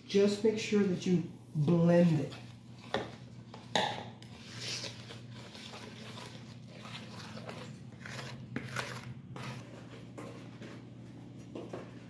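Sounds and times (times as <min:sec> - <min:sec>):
spoon stirring batter in bowl: 0:00.8 - 0:12.0.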